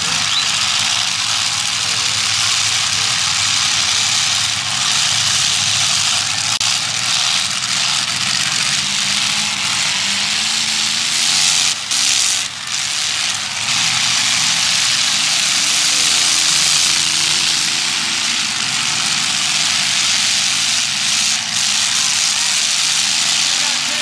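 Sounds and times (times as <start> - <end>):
car engines running together: 0.0 - 24.0.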